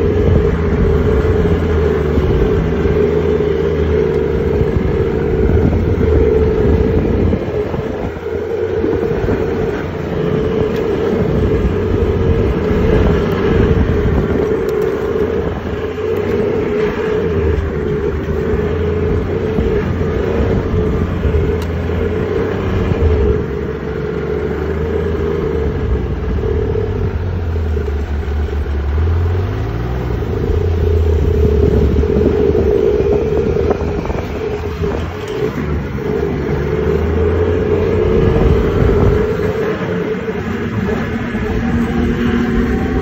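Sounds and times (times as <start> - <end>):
snowmobile engine running: 0.0 - 43.0.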